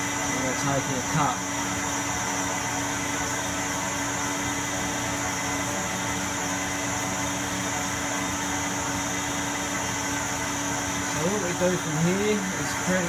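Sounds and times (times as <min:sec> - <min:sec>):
lathe machine hum: 0:00.0 - 0:13.0.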